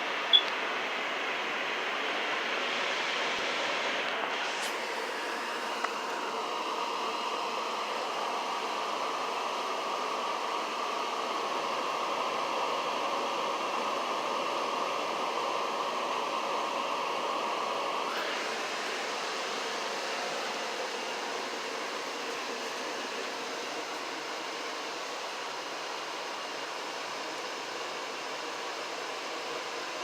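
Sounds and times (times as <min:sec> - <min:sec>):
furnace air and fan rushing: 0:00.0 - 0:30.0.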